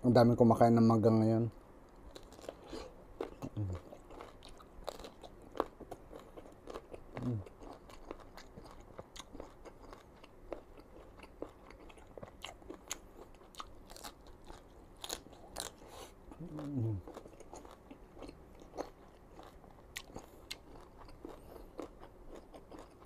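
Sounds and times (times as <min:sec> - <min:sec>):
crunching and chewing mango: 0:01.9 - 0:23.0.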